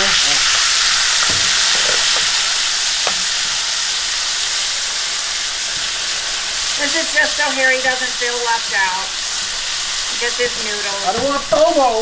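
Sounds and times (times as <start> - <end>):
butter sizzling in a pan: 0.0 - 12.0.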